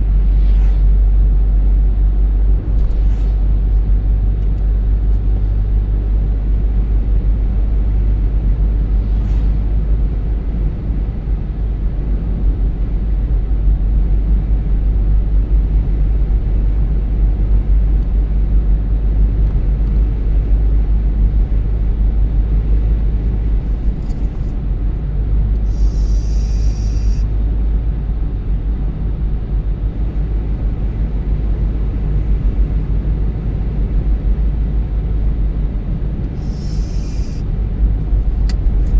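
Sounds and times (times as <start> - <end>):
car driving rumble: 0.0 - 38.9.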